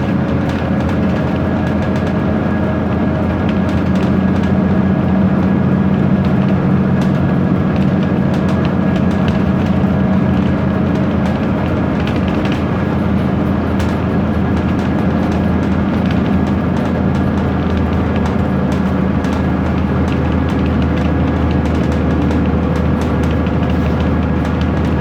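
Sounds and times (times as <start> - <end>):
bus diesel engine rumbling: 0.0 - 25.0.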